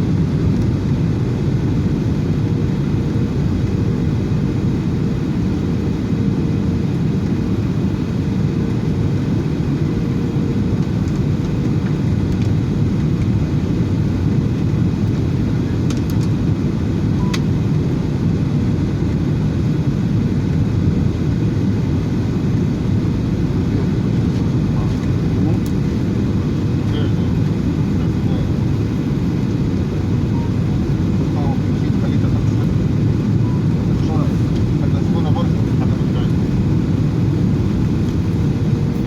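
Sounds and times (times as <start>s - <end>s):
airliner engine and airflow rumble: 0.0s - 39.0s
faint steady hum: 0.0s - 39.0s.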